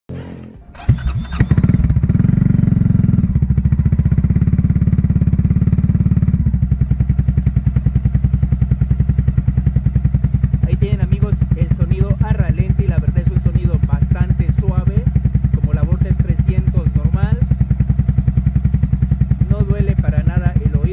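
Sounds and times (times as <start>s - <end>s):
motorcycle engine starting and idling: 0.1s - 20.9s.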